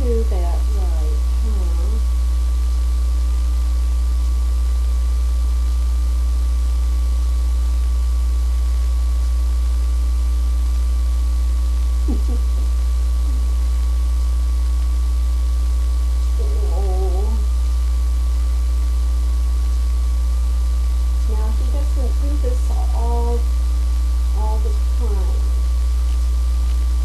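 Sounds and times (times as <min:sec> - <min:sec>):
loud electrical mains hum: 0:00.0 - 0:27.0
thin steady whine: 0:00.0 - 0:27.0.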